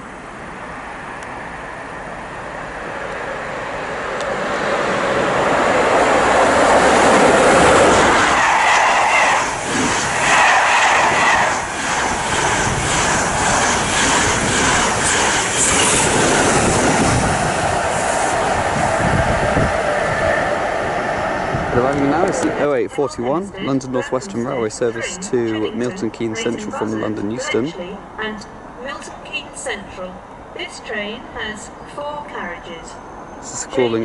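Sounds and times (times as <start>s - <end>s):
passenger train passing: 0.0s - 34.0s.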